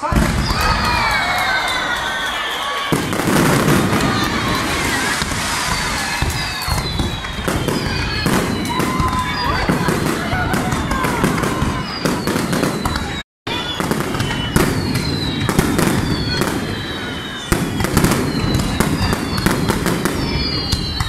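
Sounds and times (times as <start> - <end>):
fireworks bangs and crackling: 0.0 - 21.0
firework whistles sliding down: 0.2 - 21.0.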